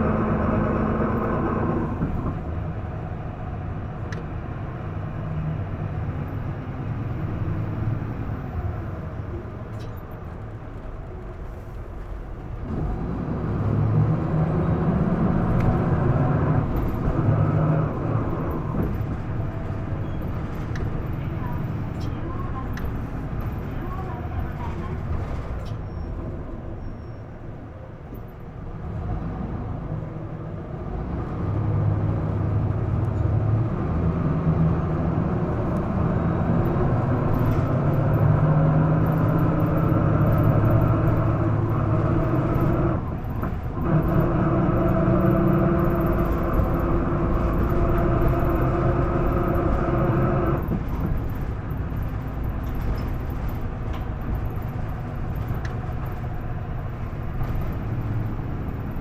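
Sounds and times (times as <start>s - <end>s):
engine whine: 0.0s - 25.8s, 30.8s - 59.0s
bus diesel engine accelerating: 0.0s - 59.0s.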